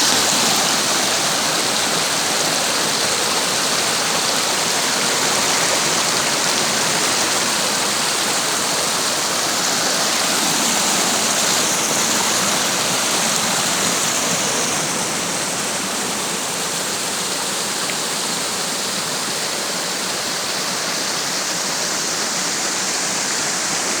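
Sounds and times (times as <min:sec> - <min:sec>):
water rushing over waterfall: 0:00.0 - 0:24.0.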